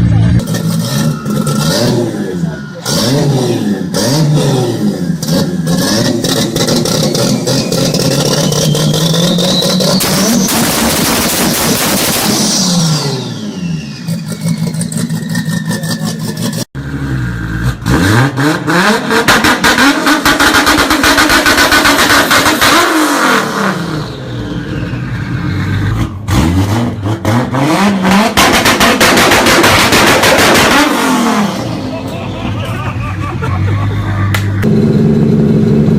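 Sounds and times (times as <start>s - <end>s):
car engine revving loudly: 0.4s - 32.0s.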